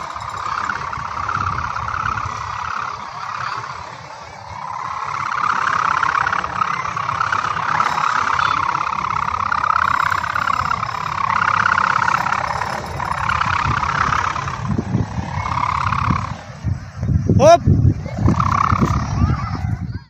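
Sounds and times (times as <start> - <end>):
kite hummer droning: 0.0 - 20.0.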